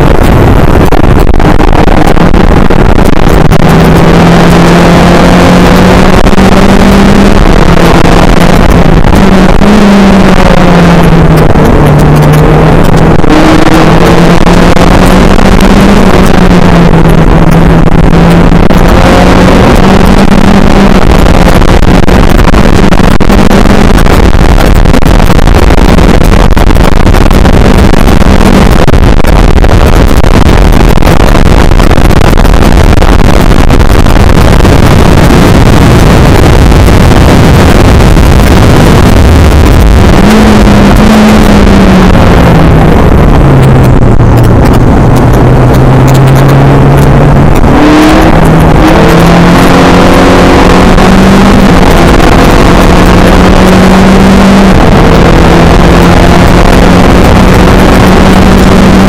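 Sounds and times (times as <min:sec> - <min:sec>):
race car engine at speed: 0:00.0 - 0:59.0
wind and road roar: 0:00.0 - 0:59.0.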